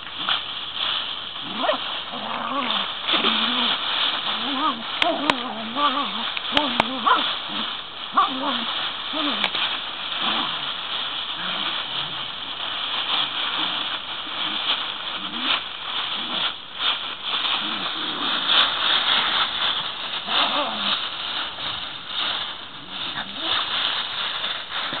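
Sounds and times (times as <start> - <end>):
dry leaves rustling: 0.0 - 25.0.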